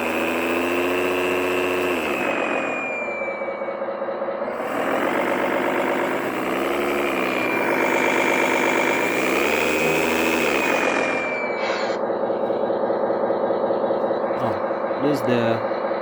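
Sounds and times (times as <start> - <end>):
simulated truck engine revving: 0.0 - 16.0
thin high whine: 0.0 - 16.0.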